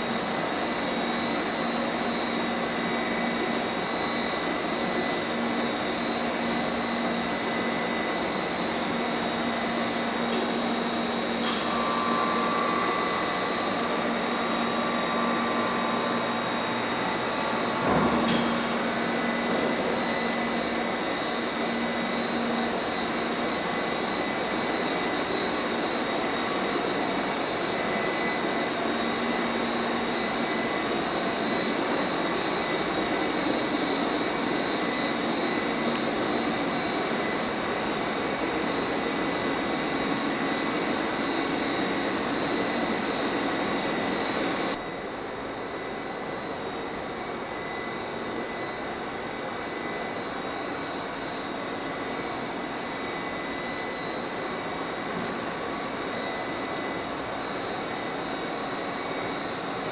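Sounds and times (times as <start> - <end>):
compost turner mechanical whine: 0.0 - 59.9.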